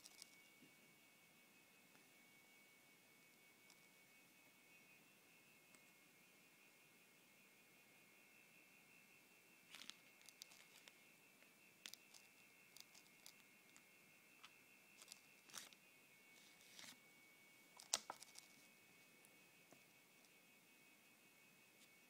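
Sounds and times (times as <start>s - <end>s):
faint high-pitched whine: 0.0s - 22.0s.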